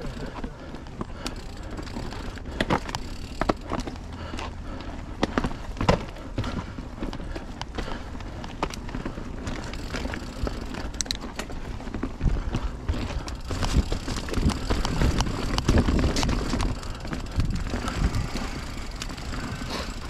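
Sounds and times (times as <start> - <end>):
bike clicking and rattling: 0.0 - 20.0
bike tyres on dirt trail: 0.0 - 20.0.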